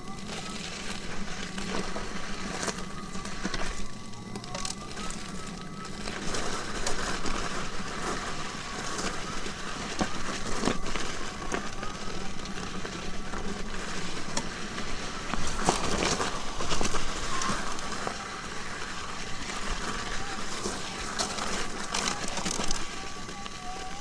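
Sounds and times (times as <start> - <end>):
faint motor whine: 0.0 - 24.0
stones crackling under tyre: 0.0 - 24.0
tyre rumbling on gravel: 0.0 - 24.0.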